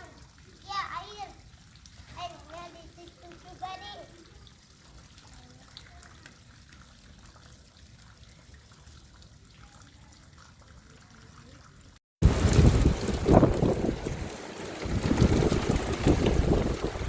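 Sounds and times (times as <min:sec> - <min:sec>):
faint trickling water: 0:00.0 - 0:17.0.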